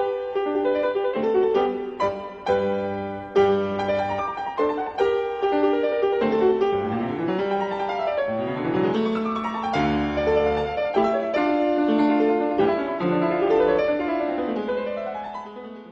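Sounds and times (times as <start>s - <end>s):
piano playing quick runs: 0.0s - 15.9s.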